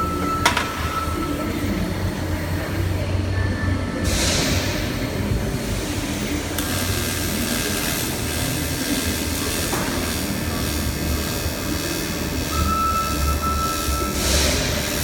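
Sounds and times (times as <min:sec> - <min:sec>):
welding arc buzzing: 0:00.0 - 0:15.0.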